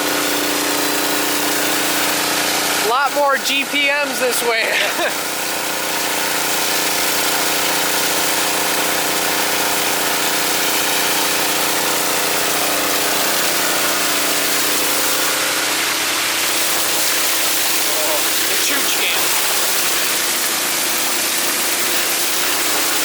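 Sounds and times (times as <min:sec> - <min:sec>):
water spraying hiss: 0:00.0 - 0:23.0
engine running steadily: 0:04.5 - 0:23.0.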